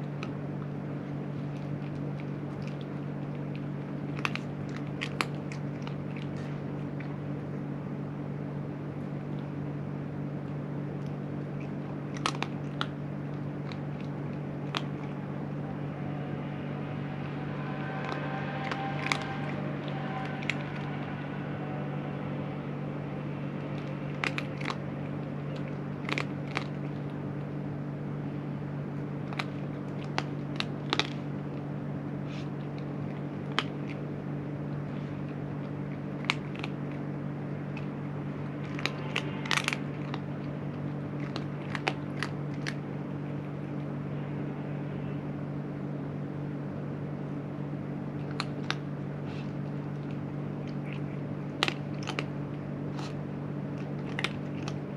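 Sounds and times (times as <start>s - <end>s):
cat crunching food: 0.0s - 16.2s, 17.8s - 44.5s, 47.8s - 54.9s
low mechanical hum: 0.0s - 54.9s.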